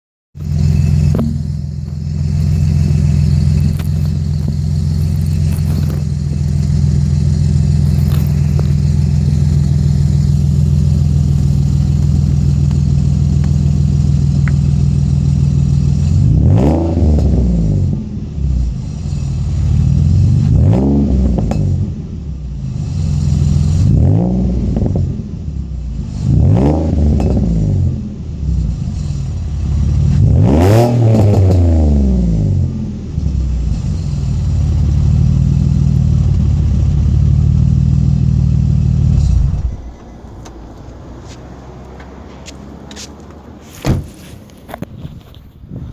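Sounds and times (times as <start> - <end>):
car engine idling and revving: 0.4 - 45.9.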